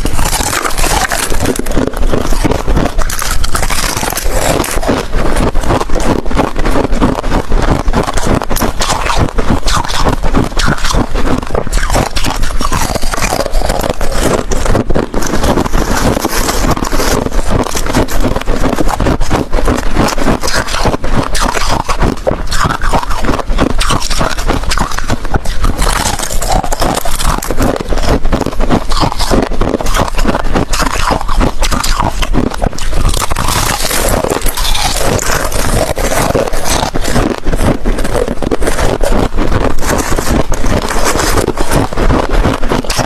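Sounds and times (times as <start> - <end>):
ice cubes being chewed: 0.0 - 43.0.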